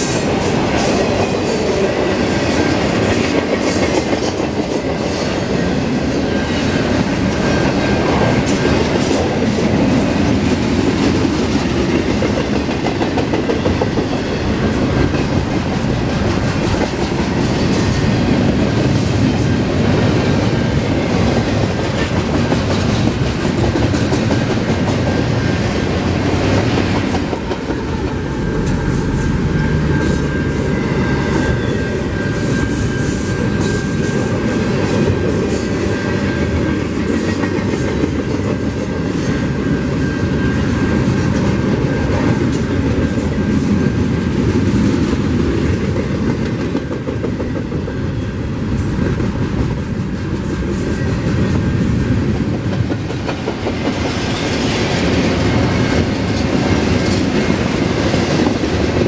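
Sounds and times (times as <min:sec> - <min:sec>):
train wheels rumbling on rail: 0:00.0 - 0:59.0
clickety-clack over rail joints: 0:00.1 - 0:28.9, 0:33.6 - 0:59.0.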